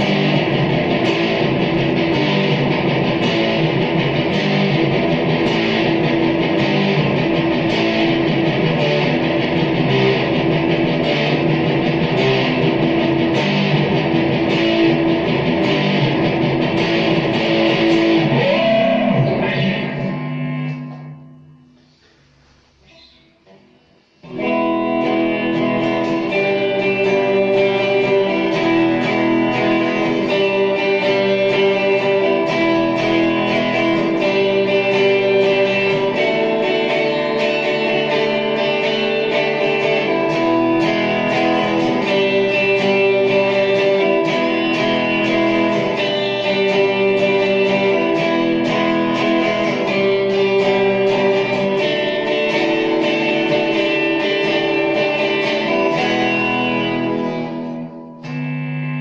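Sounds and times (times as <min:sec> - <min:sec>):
electric guitar chords strummed: 0:00.0 - 0:22.0, 0:23.4 - 0:59.0.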